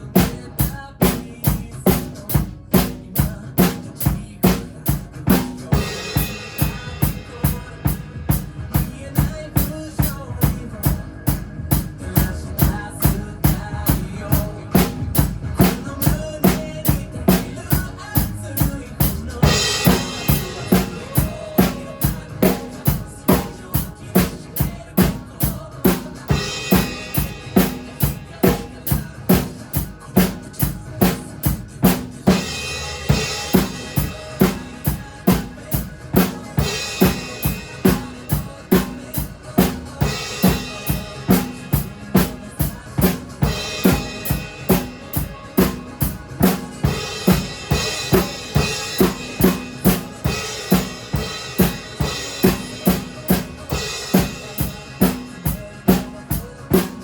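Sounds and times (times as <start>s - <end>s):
drum kit rock beat: 0.0s - 57.0s
pop backing track: 0.0s - 57.0s.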